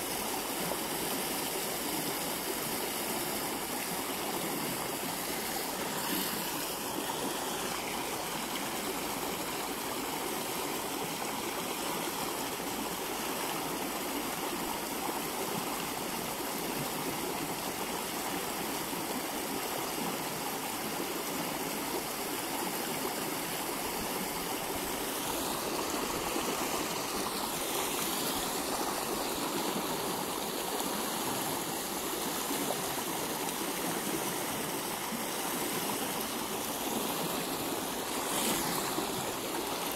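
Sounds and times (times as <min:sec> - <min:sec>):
fast-flowing stream rushing: 0:00.0 - 0:39.9.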